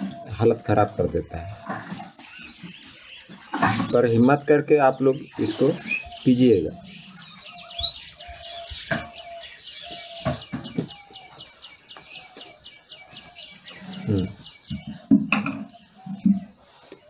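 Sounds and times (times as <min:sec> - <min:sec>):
birds chirping: 0:00.0 - 0:17.0
lower bird calls: 0:00.0 - 0:17.0.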